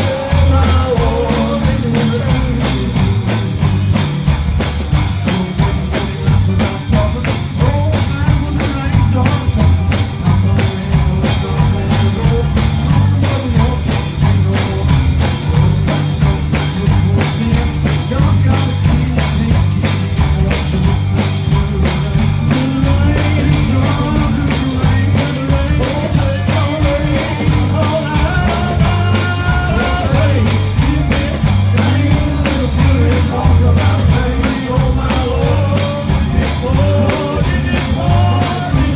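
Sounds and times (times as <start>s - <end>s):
drum kit beat: 0.0s - 38.9s
gospel band playing: 0.0s - 38.9s
heavy bass line: 0.0s - 38.9s
voices singing: 0.0s - 38.9s.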